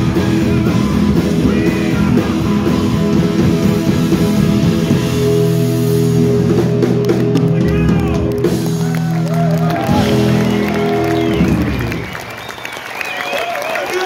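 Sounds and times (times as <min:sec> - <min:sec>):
rock band playing: 0:00.0 - 0:13.6.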